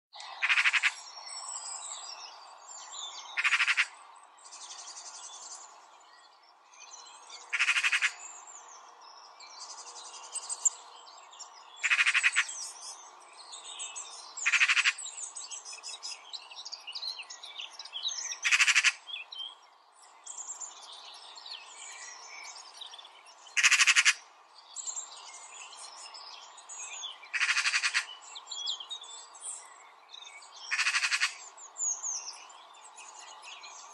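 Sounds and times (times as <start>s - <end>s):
birds chirping: 0.2s - 33.9s.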